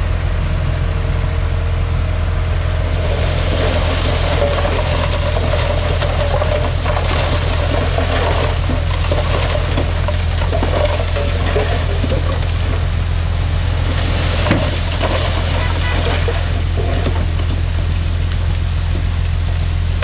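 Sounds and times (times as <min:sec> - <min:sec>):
heavy diesel machinery drone: 0:00.0 - 0:20.0.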